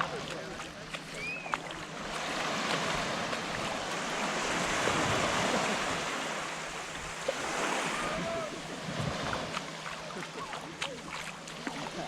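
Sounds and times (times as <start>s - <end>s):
surf washing onto beach: 0.0s - 12.0s.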